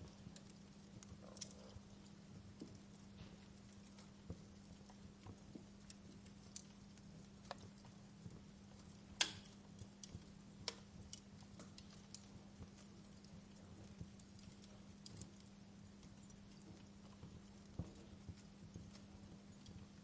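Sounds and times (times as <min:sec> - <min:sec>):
faint low hum: 0:00.0 - 0:20.0
wood fire crackling: 0:00.0 - 0:20.0.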